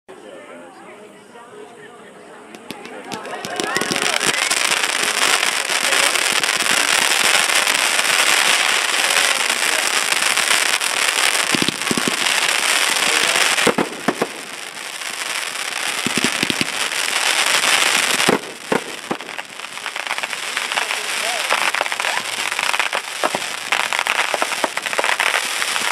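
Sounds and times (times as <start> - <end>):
fireworks crackling: 2.5 - 25.9
fireworks bangs: 2.6 - 25.9.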